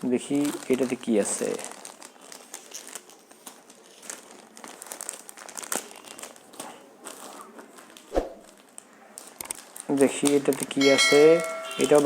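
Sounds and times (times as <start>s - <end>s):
parcel packaging crinkling: 0.0s - 12.0s.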